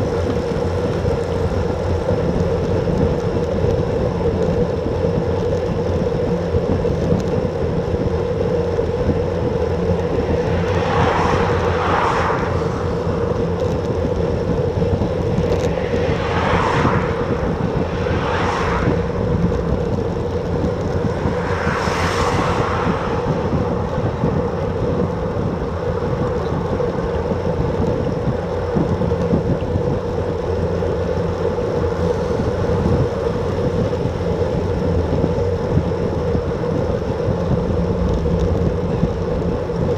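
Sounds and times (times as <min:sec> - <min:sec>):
constant hum: 0:00.0 - 0:39.9
wind rushing over microphone: 0:00.0 - 0:39.9.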